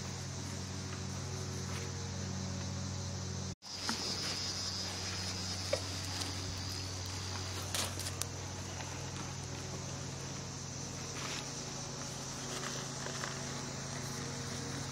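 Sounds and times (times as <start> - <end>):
crickets droning: 0.0 - 14.9.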